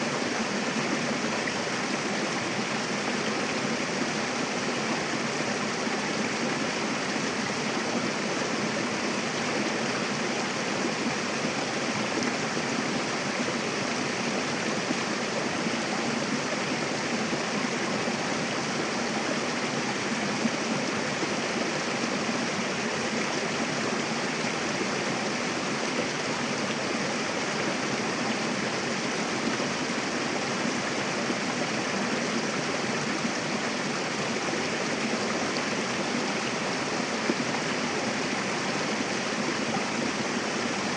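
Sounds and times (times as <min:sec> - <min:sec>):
river running over rocks: 0:00.0 - 0:40.9.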